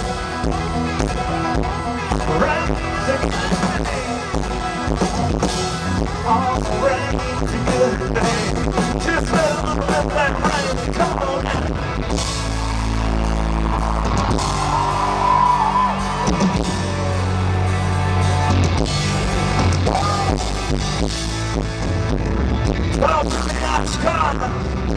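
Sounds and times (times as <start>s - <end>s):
bass guitar: 0.0s - 24.9s
drum kit rock groove: 0.0s - 24.9s
electric guitars: 0.0s - 24.9s.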